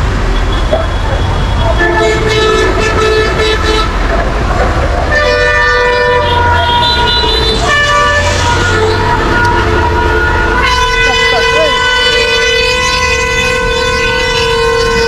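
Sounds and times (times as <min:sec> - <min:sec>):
low rumble of engines: 0:00.0 - 0:15.0
vehicle horns honking: 0:00.4 - 0:04.1, 0:05.0 - 0:15.0.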